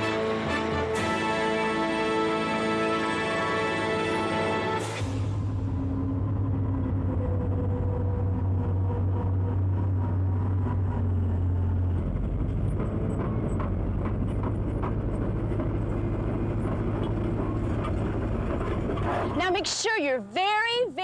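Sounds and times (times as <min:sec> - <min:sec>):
heavy machine engine droning: 0:00.0 - 0:21.0.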